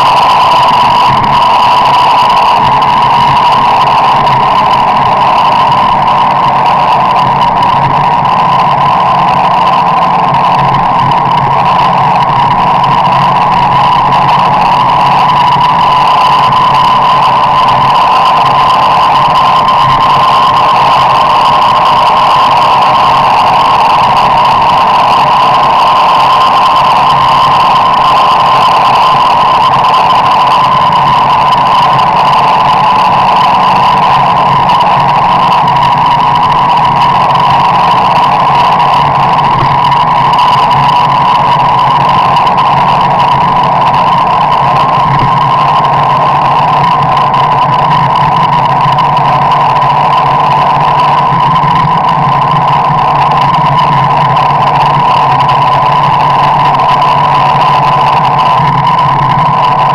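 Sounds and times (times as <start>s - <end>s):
car cabin drone: 0.0s - 59.9s.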